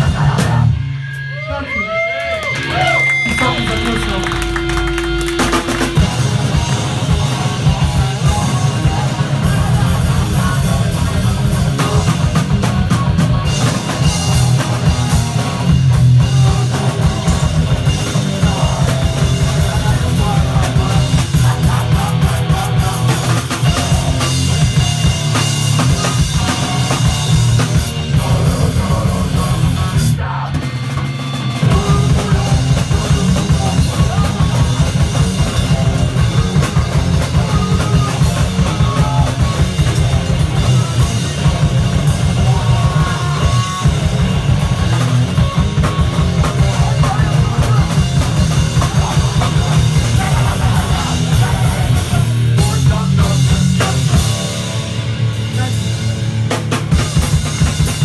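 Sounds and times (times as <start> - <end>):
drum kit pounding: 0.0 - 58.0
electric guitar: 0.0 - 58.0.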